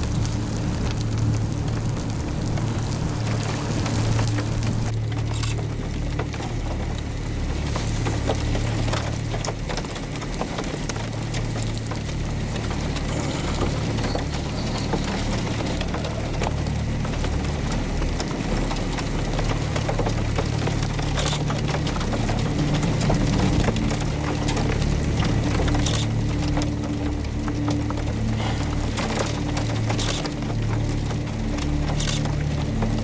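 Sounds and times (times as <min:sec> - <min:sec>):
vehicle engine and road hum: 0:00.0 - 0:33.0.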